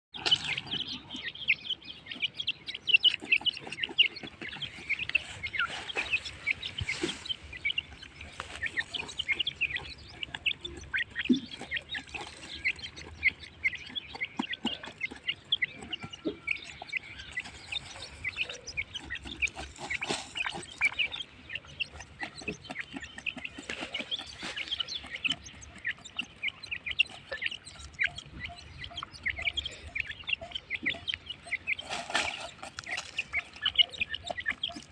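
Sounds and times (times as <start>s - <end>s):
francolins chirping and clucking: 0.1s - 34.9s.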